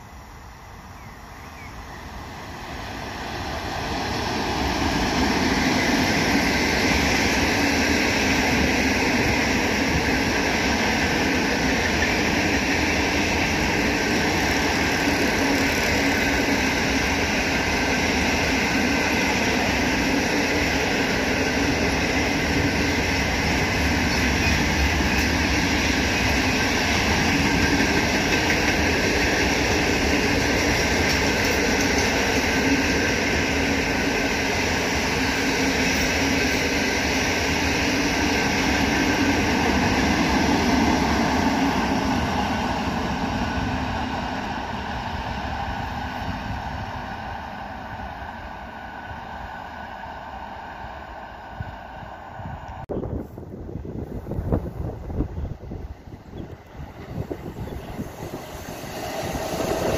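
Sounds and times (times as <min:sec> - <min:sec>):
freight train passing on rails: 0:00.0 - 0:59.9.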